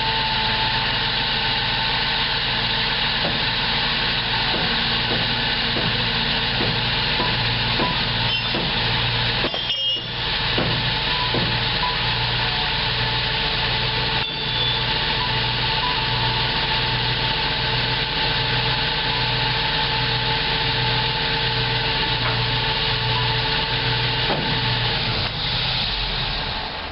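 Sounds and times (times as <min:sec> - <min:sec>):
truck engine running: 0:00.0 - 0:26.9
hydraulic hoist whirring: 0:02.3 - 0:26.8.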